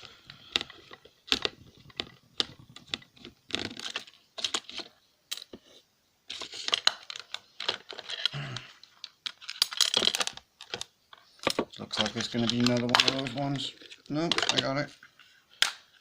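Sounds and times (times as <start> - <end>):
plastic parts clicking and scraping: 0.0 - 16.0.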